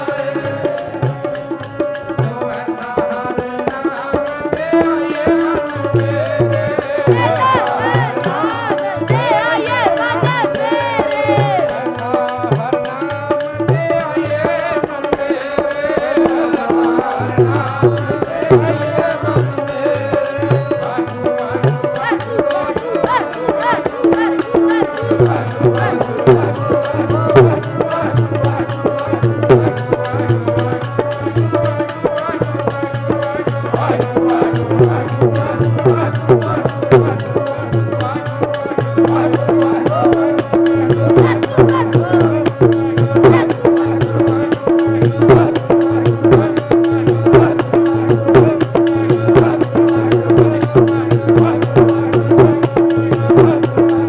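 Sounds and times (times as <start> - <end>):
tabla fast rhythm: 0.0 - 54.0
voices singing: 0.0 - 54.0.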